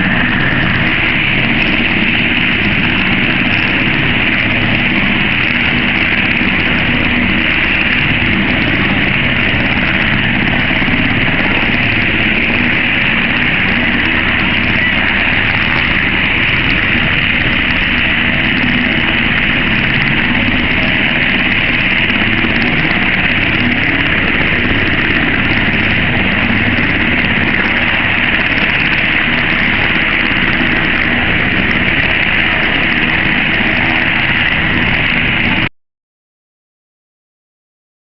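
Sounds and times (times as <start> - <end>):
helicopter engines and rotors: 0.0 - 35.7.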